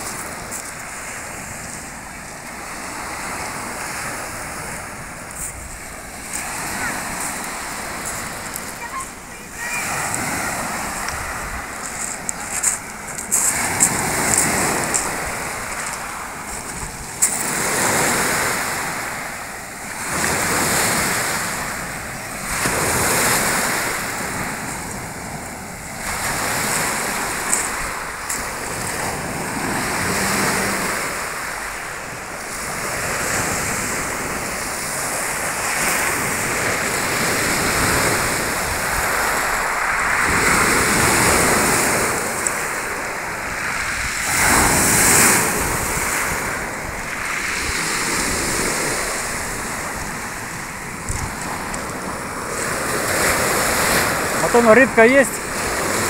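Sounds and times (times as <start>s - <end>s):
surf breaking on pebble beach: 0.0s - 56.0s.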